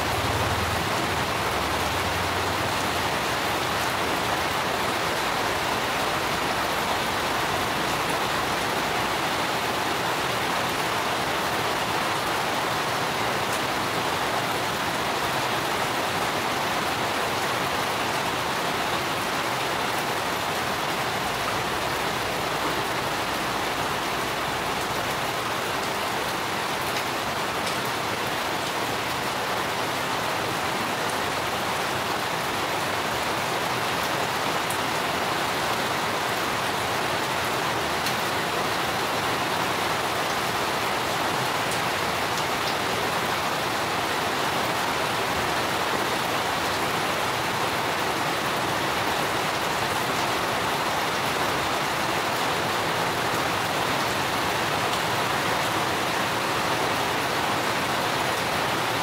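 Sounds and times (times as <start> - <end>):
rain falling on plants: 0.0 - 59.0.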